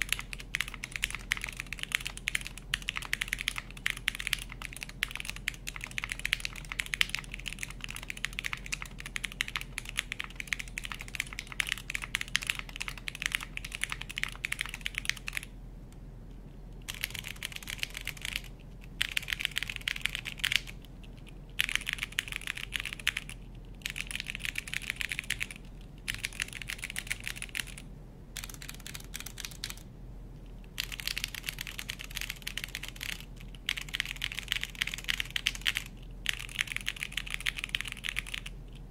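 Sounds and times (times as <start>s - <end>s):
mechanical keyboard typing: 0.0s - 15.5s, 16.9s - 27.8s, 28.4s - 29.8s, 30.8s - 38.6s.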